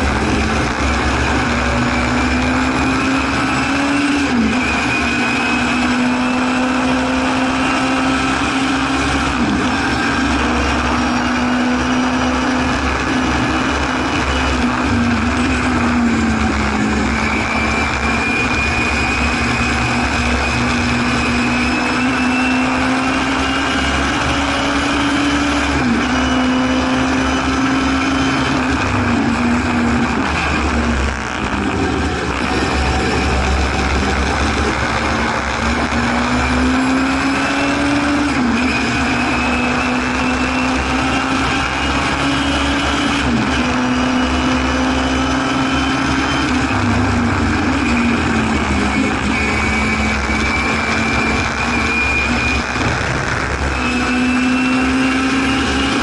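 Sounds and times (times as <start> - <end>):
race car engine at high revs: 0.0 - 56.0
road and wind noise: 0.0 - 56.0.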